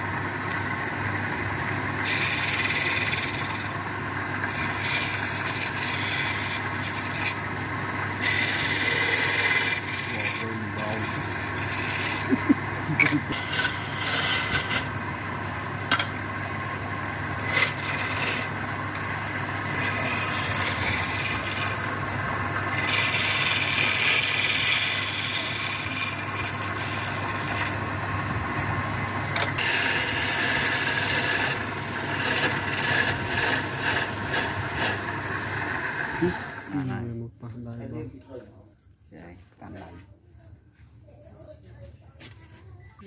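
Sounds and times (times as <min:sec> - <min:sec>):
lathe motor humming: 0:00.0 - 0:37.1
tool scraping spinning wood: 0:00.0 - 0:37.2.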